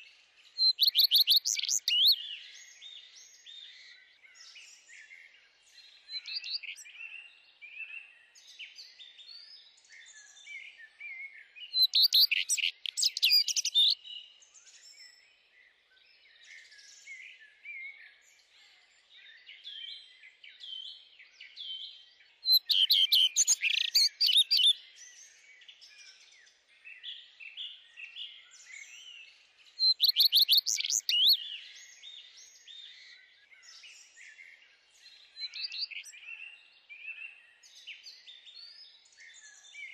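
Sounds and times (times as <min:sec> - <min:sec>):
loud trilled bird song: 0:00.0 - 0:39.9
songbirds chirping: 0:00.0 - 0:39.9.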